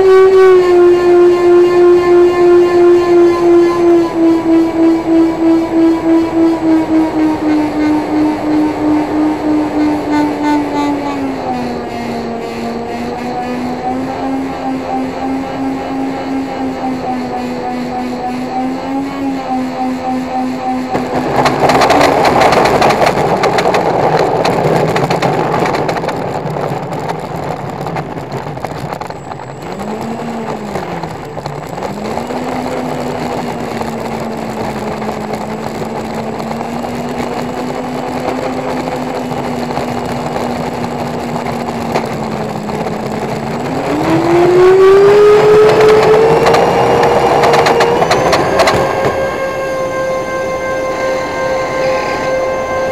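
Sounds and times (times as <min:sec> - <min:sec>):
electric motor whine: 0:00.0 - 0:24.4, 0:28.6 - 0:52.9.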